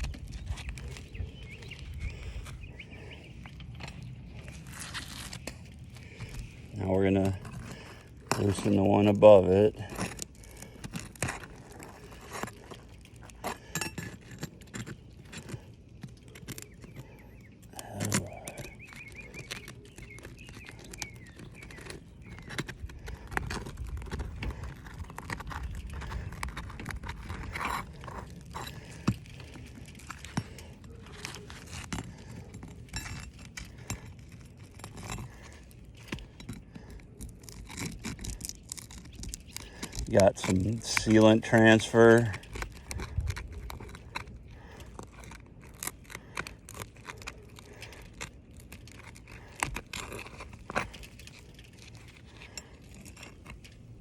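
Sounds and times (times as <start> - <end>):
metal tool scraping shingle: 2.1 - 54.0.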